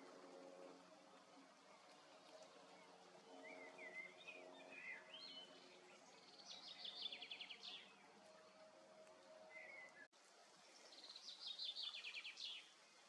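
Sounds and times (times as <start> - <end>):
bird song warbling and trilling: 0.0 - 10.1, 10.7 - 12.8
faint low hum: 0.0 - 13.0.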